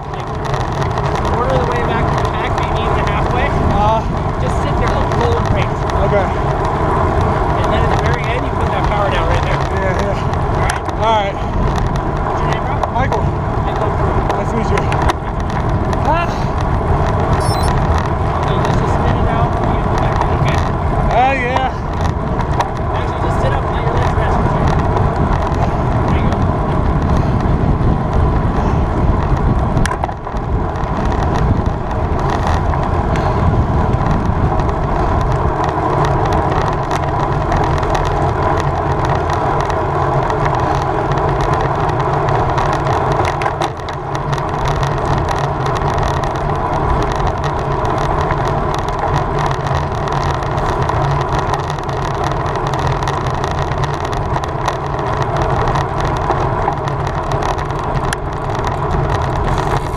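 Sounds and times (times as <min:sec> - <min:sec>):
bicycle road noise: 0:00.0 - 0:59.9
wind buffeting microphone: 0:00.0 - 0:59.9
wind rush while cycling: 0:00.0 - 0:59.9.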